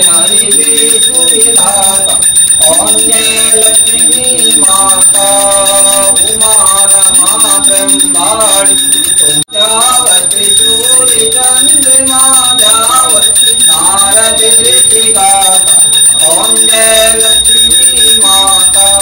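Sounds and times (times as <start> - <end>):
hand bell ringing: 0.0 - 19.0.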